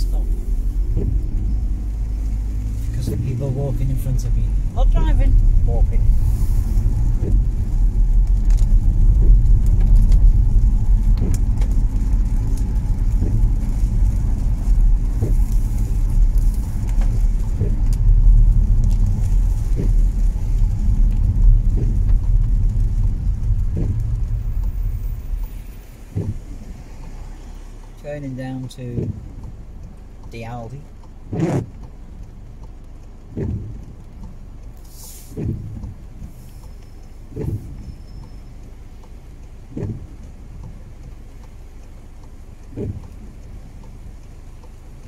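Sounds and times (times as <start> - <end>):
car interior road rumble: 0.0 - 45.0.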